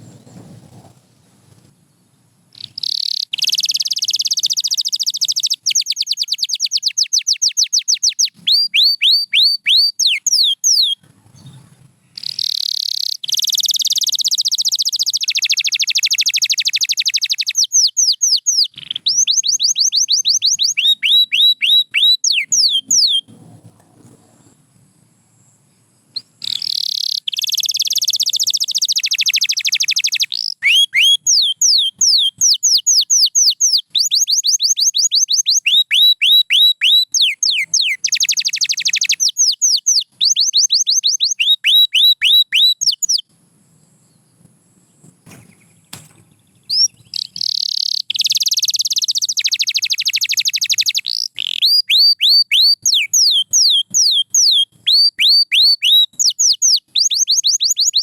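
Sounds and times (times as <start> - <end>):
canary singing trills: 2.4 - 24.9, 25.5 - 43.3, 43.9 - 58.0.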